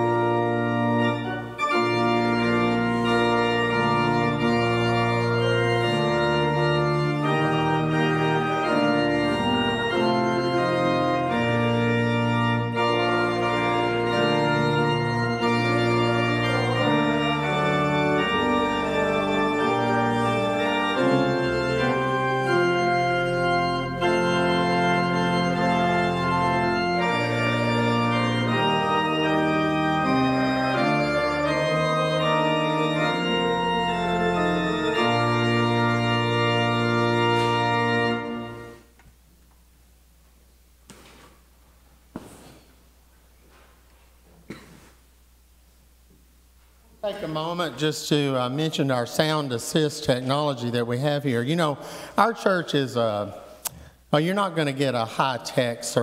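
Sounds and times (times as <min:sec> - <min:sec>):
church organ playing a hymn: 0:00.0 - 0:40.2, 0:45.4 - 0:56.0.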